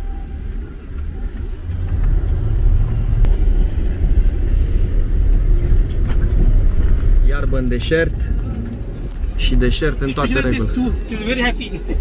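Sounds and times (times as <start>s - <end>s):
vehicle rumbling over rough ground: 0.0s - 12.0s.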